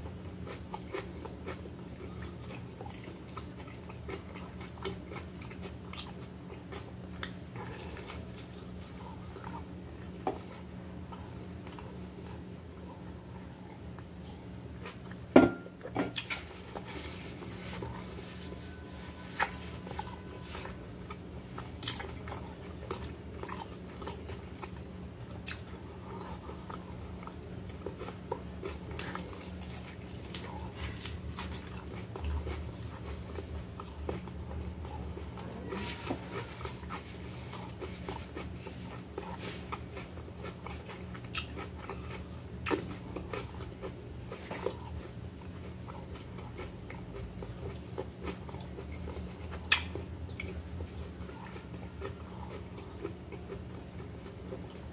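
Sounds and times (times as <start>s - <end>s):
biting and chewing bread: 0.0s - 54.9s
low steady hum: 0.0s - 54.9s.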